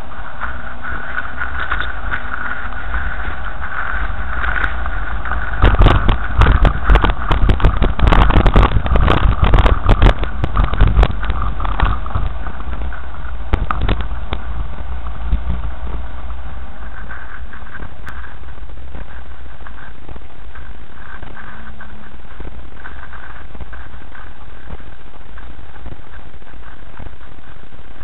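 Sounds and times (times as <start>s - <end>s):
knocks and rattles over rocks: 0.0s - 28.0s
road and engine rumble: 0.0s - 28.0s.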